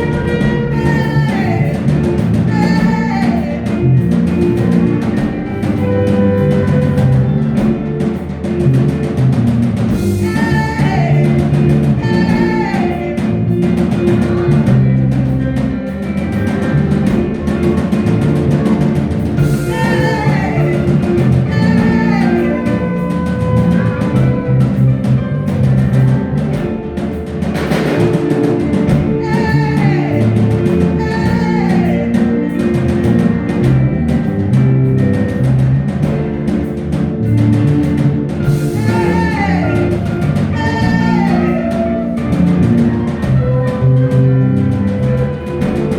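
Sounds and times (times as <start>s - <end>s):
drums and bass beat: 0.0s - 45.9s
live praise music: 0.0s - 45.9s.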